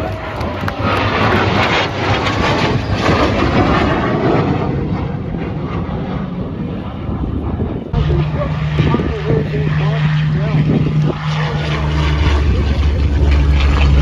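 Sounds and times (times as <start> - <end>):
jet roar passing overhead: 0.0 - 14.0.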